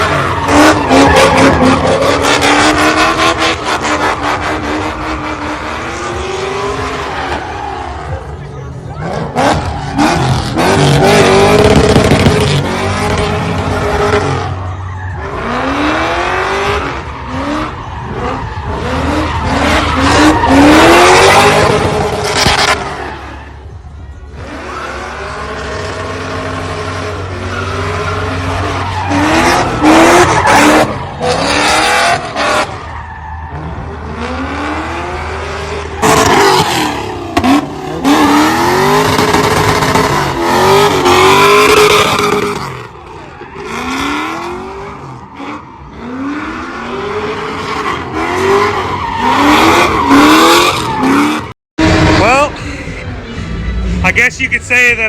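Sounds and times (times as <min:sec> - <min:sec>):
car engine revving: 0:00.0 - 0:55.0
tires squealing: 0:00.0 - 0:55.0.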